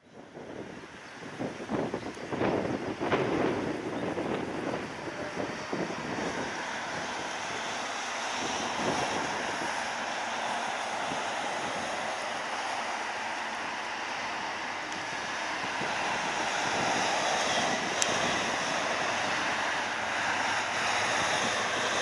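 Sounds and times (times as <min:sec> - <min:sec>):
wind on microphone: 0:00.0 - 0:22.0
jet engines rushing: 0:00.1 - 0:22.0.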